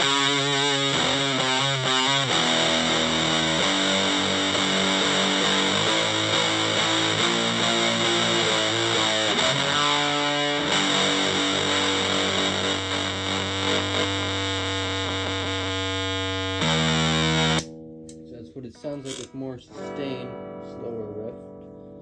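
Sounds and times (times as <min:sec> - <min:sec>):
distorted electric guitar riff: 0:00.0 - 0:20.5.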